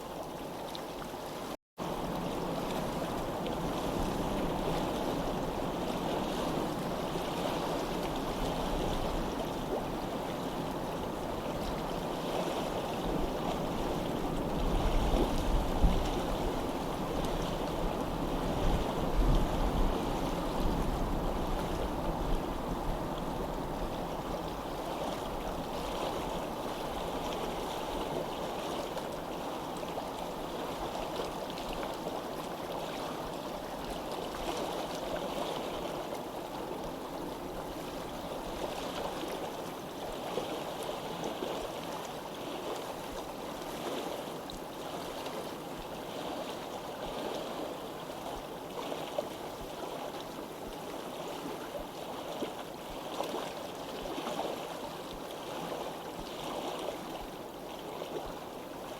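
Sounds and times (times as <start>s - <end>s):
flowing water: 0.0s - 58.9s.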